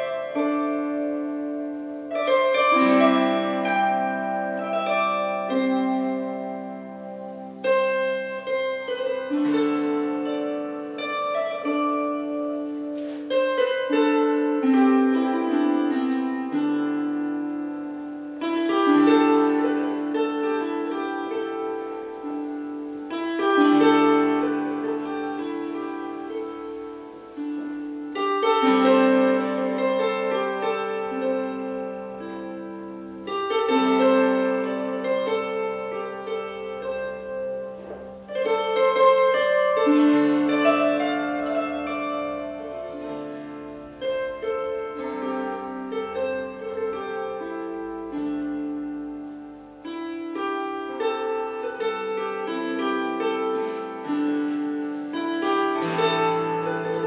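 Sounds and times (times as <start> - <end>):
harp plucked notes and chords: 0.0 - 57.0.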